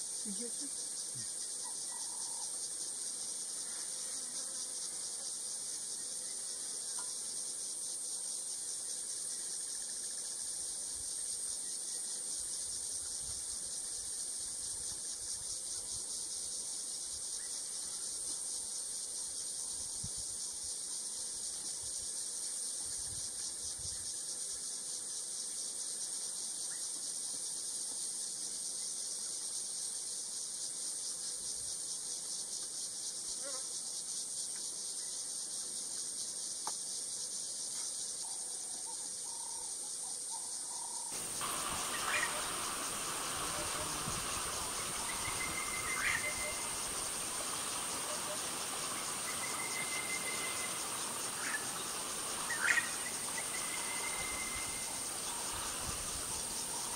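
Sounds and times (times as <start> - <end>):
shrill insect chorus: 0.0 - 56.9.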